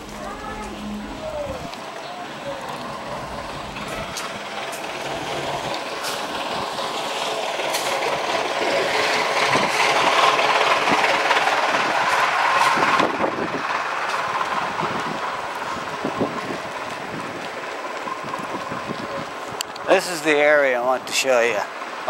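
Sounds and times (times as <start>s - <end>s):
bicycle rolling over dirt: 0.0s - 22.0s.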